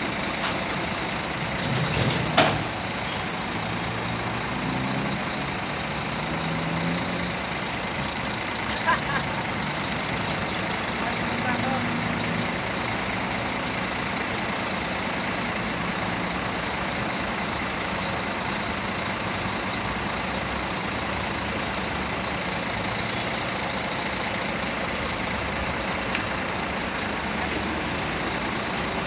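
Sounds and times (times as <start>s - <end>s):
diesel machinery running: 0.0s - 29.0s.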